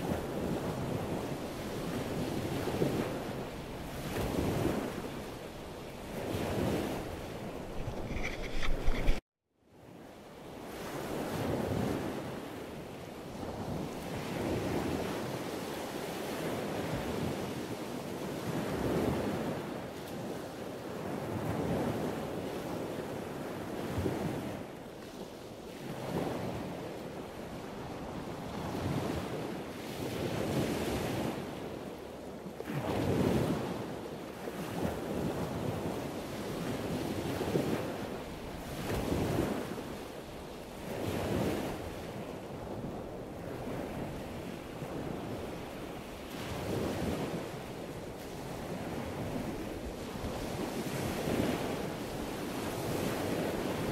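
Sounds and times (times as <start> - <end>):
sea surf: 0.0 - 9.2, 10.5 - 53.9.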